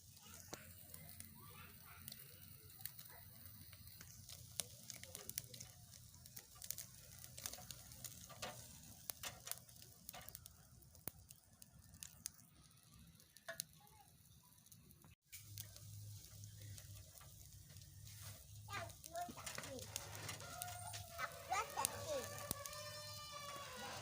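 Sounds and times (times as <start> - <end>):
fat crackling and popping: 0.0 - 24.0
sausages sizzling on a grill: 0.0 - 24.0.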